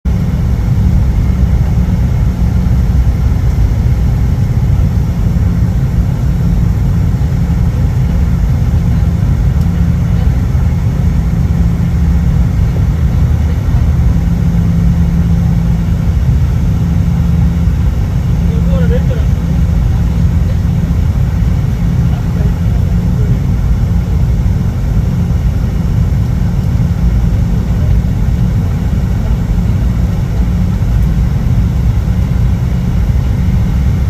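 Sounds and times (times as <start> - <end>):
deep engine drone: 0.0 - 34.0.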